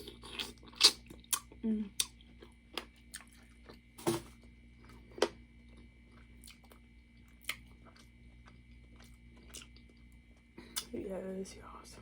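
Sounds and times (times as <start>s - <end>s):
person chewing: 0.0s - 10.9s.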